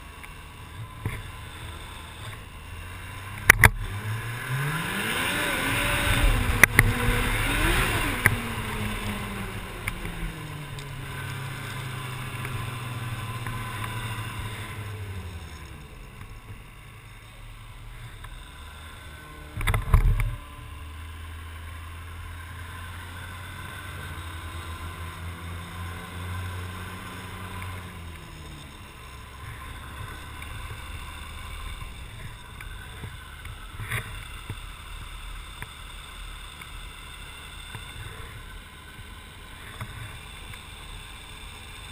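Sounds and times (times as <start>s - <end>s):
snowmobile engine running: 0.0s - 41.9s.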